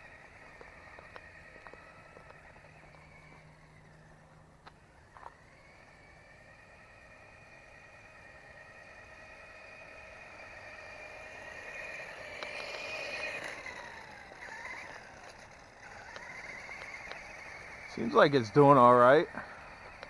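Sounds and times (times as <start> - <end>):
rc truck electric motor whine: 0.0 - 20.0.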